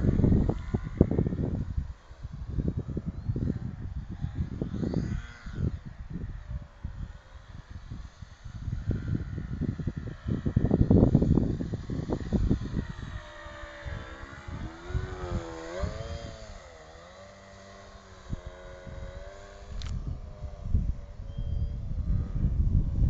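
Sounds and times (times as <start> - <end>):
model aeroplane motor droning: 0.0 - 23.0
wind buffeting microphone: 0.0 - 23.0.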